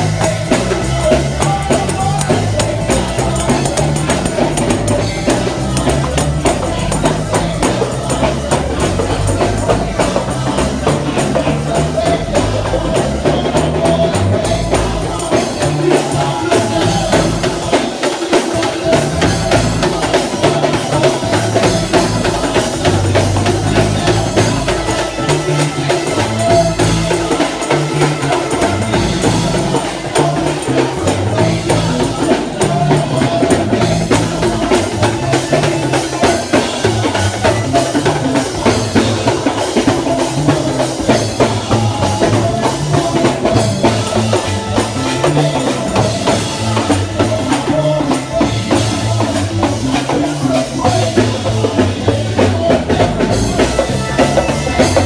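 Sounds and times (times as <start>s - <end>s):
drum kit beat: 0.0s - 55.0s
organ playing: 0.0s - 55.0s.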